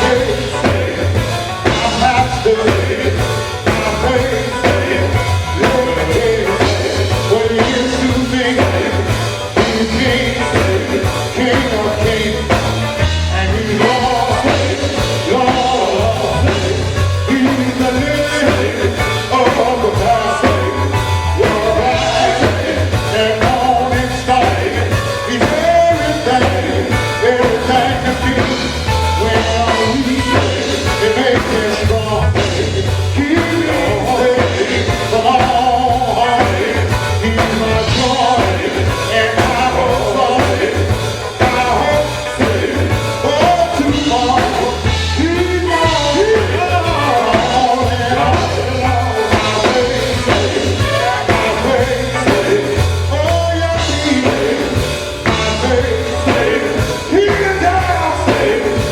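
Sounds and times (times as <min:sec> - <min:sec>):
band accompaniment: 0:00.0 - 0:58.9
gospel group singing: 0:00.0 - 0:58.9.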